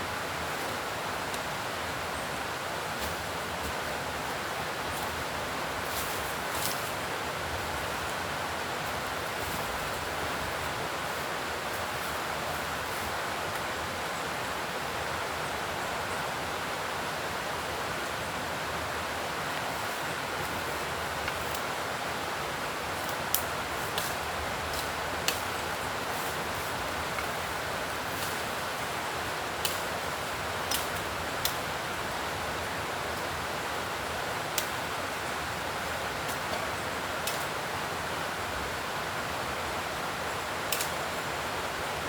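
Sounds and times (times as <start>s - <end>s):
steady hiss: 0.0s - 42.0s.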